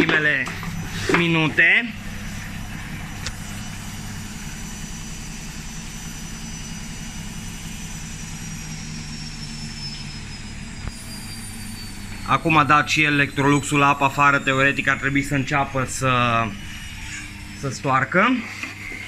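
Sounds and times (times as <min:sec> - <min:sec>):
high whine falling in pitch: 0:00.0 - 0:19.0
washing machine motor and pump hum: 0:00.0 - 0:19.0.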